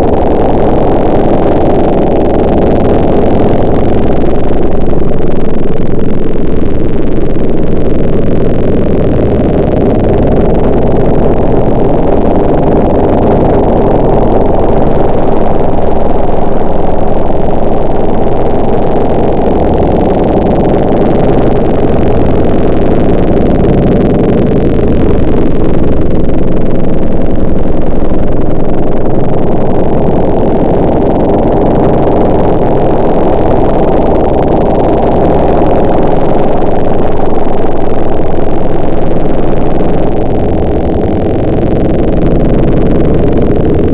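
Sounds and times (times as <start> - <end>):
motor running loudly: 0.0 - 43.9.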